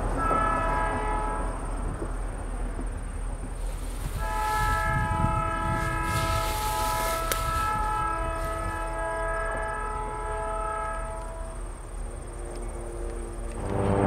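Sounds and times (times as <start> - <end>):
locomotive air horn chord: 0.0 - 1.7, 3.7 - 14.0.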